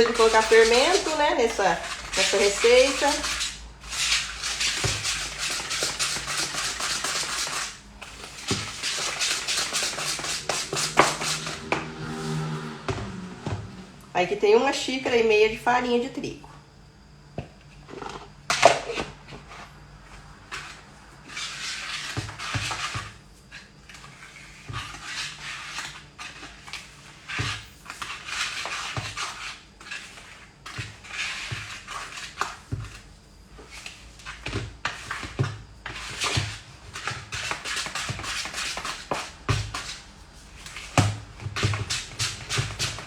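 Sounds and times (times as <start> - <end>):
utensil stirring batter in bowl: 0.0 - 13.8, 17.4 - 43.0.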